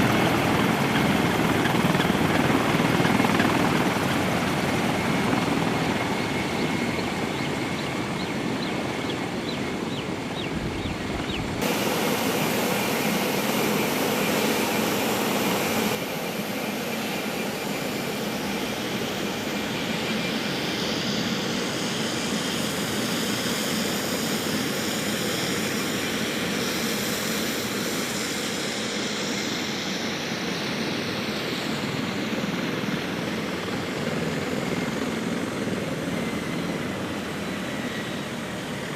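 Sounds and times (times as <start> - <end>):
rotorcraft turbine engines and rotors: 0.0 - 38.9.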